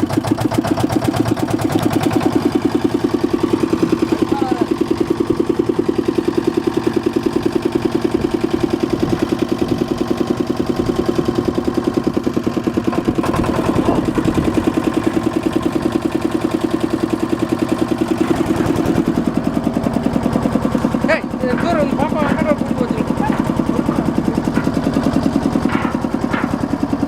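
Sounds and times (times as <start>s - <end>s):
construction machine engine idling: 0.0s - 27.0s.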